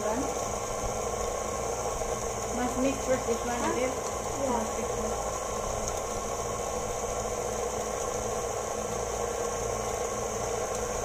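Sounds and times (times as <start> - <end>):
stand mixer running: 0.0 - 11.0.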